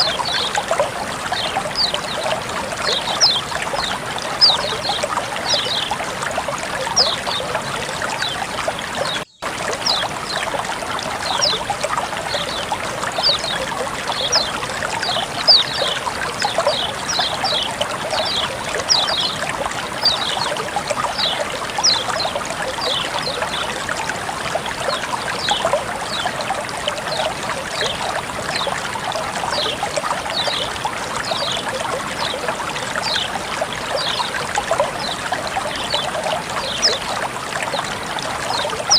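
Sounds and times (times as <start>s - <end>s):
water flowing and trickling: 0.0s - 38.9s.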